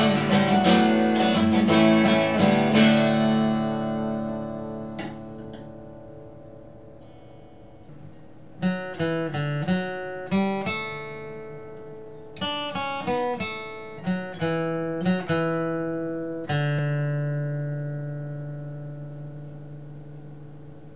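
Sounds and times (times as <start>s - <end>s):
acoustic guitar chords: 0.0s - 20.9s.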